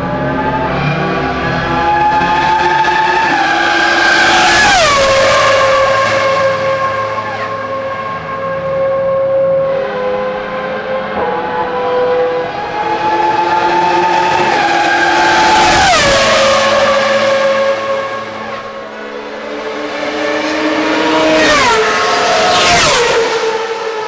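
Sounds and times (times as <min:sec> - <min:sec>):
racing car engine at high revs: 0:00.0 - 0:24.0.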